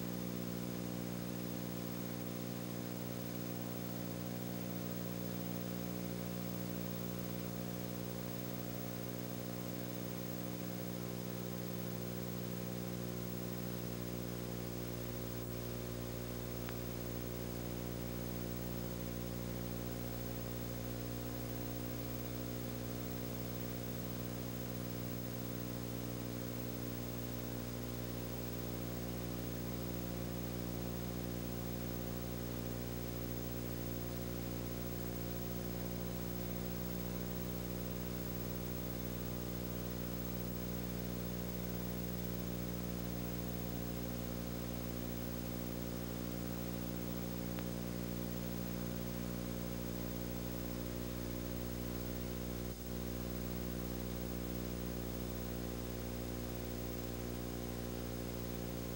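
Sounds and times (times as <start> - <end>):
steady hum with overtones: 0.0 - 58.9.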